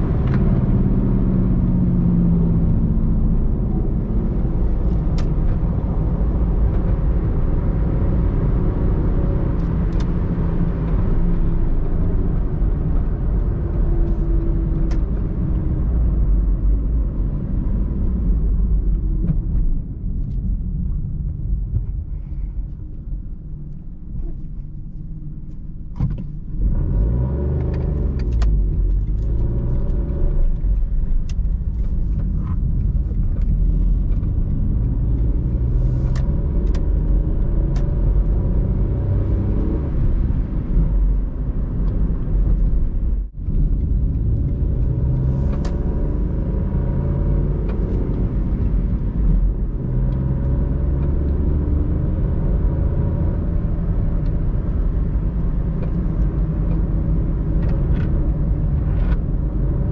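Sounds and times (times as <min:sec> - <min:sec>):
car engine accelerating: 0:00.0 - 0:21.6, 0:25.5 - 0:59.9
road noise inside car: 0:00.0 - 0:59.9.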